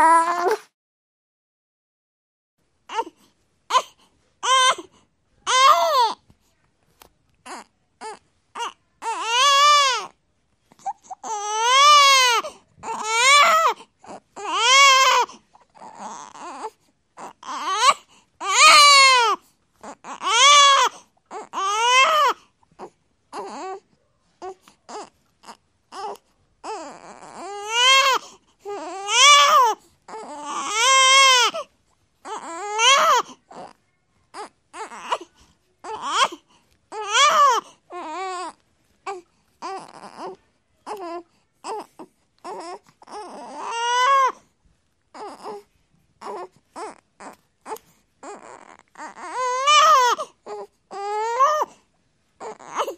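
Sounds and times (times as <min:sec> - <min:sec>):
baby crying: 0:00.0 - 0:00.7, 0:02.9 - 0:06.2, 0:07.4 - 0:10.2, 0:10.8 - 0:23.8, 0:24.4 - 0:44.4, 0:45.1 - 0:51.8, 0:52.4 - 0:52.9.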